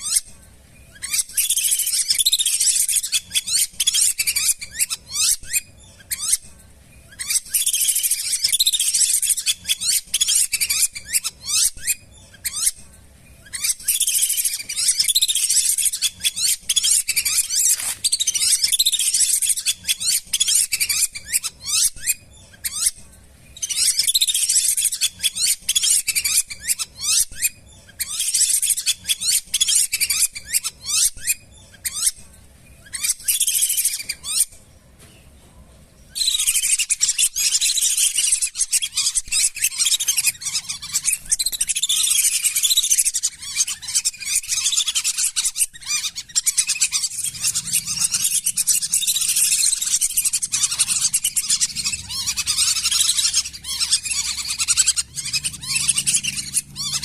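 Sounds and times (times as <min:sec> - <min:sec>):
ducks twittering whistles: 0:00.9 - 0:06.4, 0:07.1 - 0:12.8, 0:13.4 - 0:23.0, 0:23.6 - 0:32.2, 0:32.8 - 0:34.6, 0:36.1 - 0:57.0.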